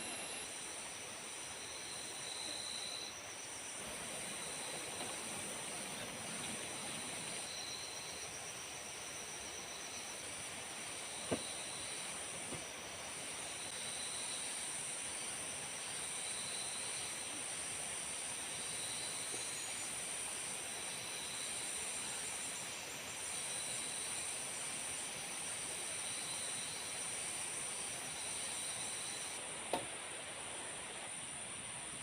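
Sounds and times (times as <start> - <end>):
insects droning chorus: 0.0 - 32.0
pulsing insect chirp: 0.0 - 32.0
steady hiss: 0.0 - 32.0.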